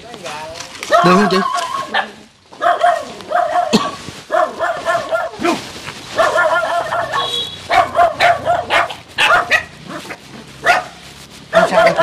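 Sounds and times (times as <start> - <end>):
dog barking: 0.9 - 5.4, 6.1 - 12.0.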